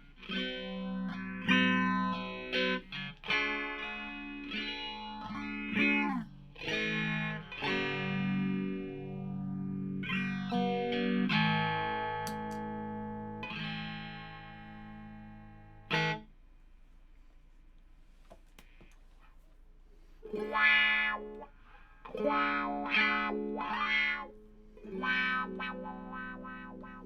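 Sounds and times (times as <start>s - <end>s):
electric guitar chords with effects: 0.0s - 16.4s, 20.2s - 27.0s.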